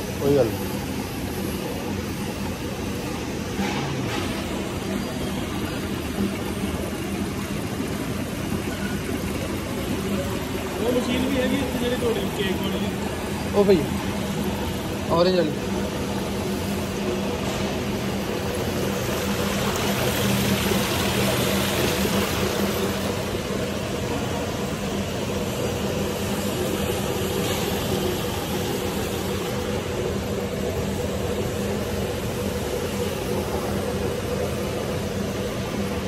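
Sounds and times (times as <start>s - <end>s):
motor and gearbox hum: 0.0s - 36.0s.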